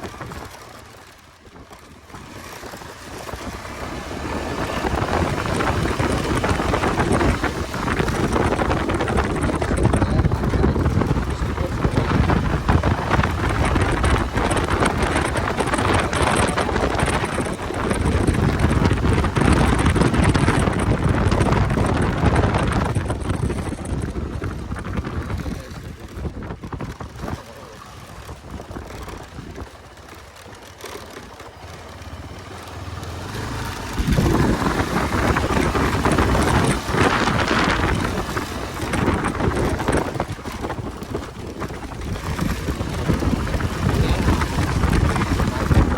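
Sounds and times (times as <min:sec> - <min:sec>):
vehicle running: 0:00.0 - 0:45.9
wind buffeting microphone: 0:00.0 - 0:45.9.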